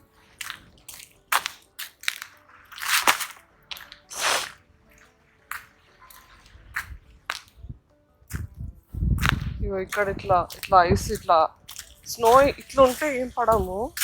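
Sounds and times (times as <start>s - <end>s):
footsteps crunching in snow: 0.0s - 7.6s, 9.2s - 14.0s.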